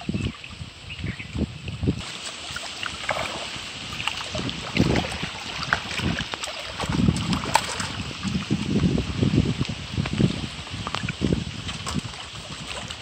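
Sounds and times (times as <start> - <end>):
wind rumbling on microphone: 0.0 - 13.0
fish splashing at water surface: 2.0 - 13.0.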